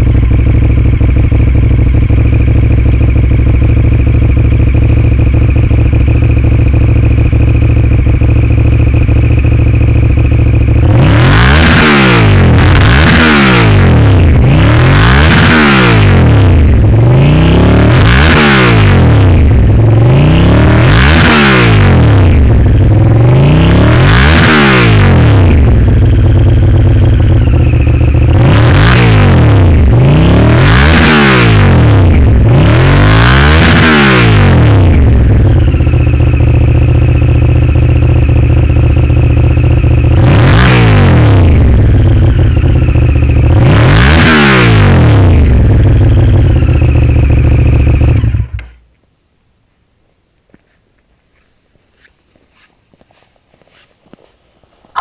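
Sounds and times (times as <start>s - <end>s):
motorcycle engine idling and revving: 0.0s - 49.0s, 50.6s - 55.0s.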